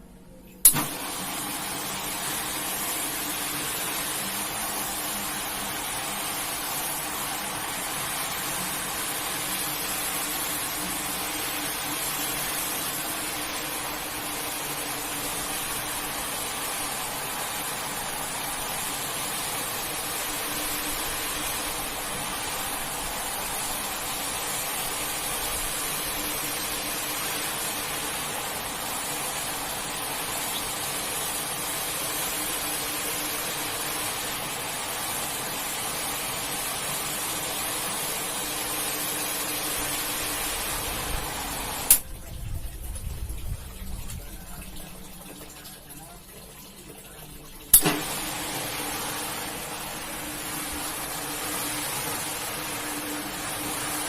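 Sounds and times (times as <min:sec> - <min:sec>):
faint motor hum: 0:00.0 - 0:54.0
water spraying under pressure: 0:00.6 - 0:54.0.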